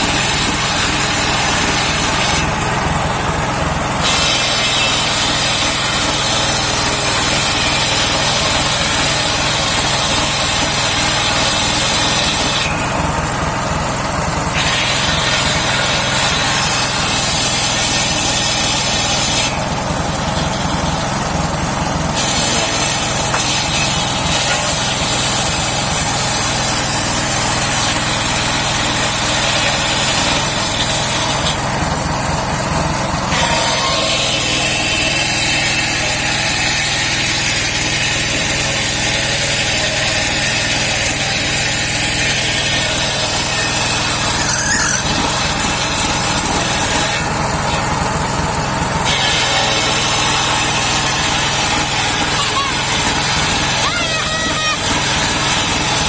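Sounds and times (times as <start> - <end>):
circular saw whine: 0.0 - 56.0
sawmill engine running: 0.0 - 56.0.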